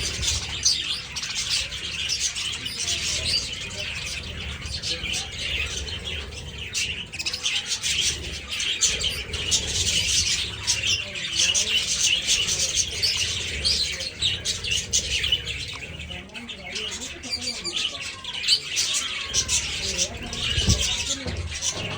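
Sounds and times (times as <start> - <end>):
budgerigars chirping and chattering: 0.0 - 21.9.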